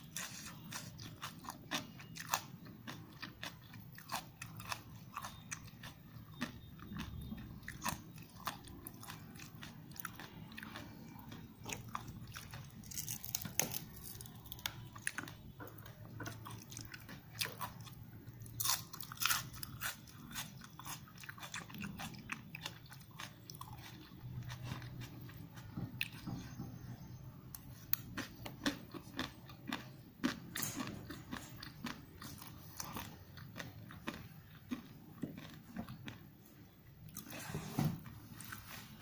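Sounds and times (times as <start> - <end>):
crunchy chewing: 0.0 - 39.0.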